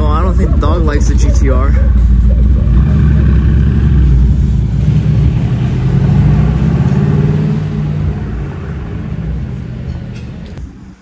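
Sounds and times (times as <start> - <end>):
car engine running loud: 0.0 - 10.7.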